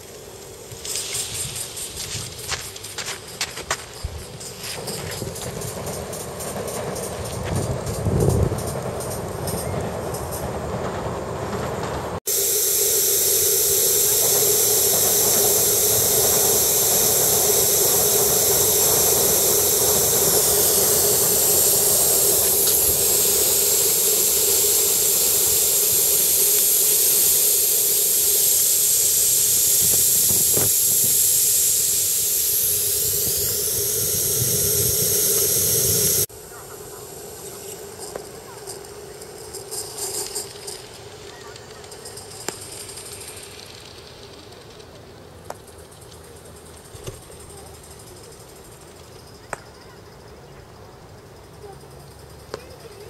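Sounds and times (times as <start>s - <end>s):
steam hissing: 0.0s - 49.6s
model locomotive running: 0.0s - 53.0s.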